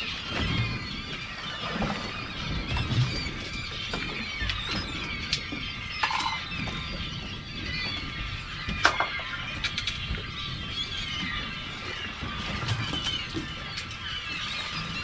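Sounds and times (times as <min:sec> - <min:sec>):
seabirds squealing: 0:00.0 - 0:15.0.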